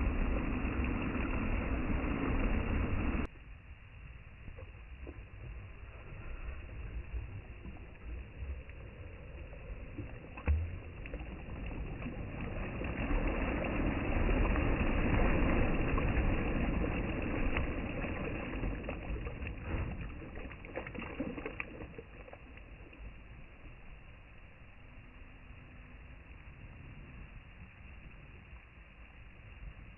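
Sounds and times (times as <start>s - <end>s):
sea waves washing in: 0.0s - 3.3s, 5.1s - 27.7s.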